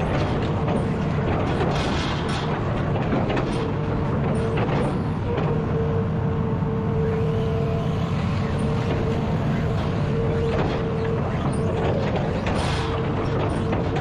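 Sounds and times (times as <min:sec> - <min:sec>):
excavator diesel engine whining: 0:00.0 - 0:14.0.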